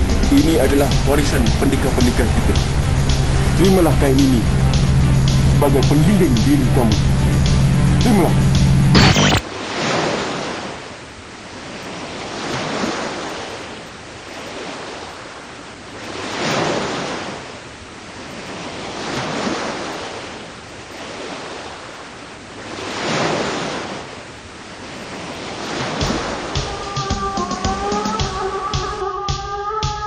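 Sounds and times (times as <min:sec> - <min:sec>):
waves breaking and washing in: 0:00.0 - 0:29.9.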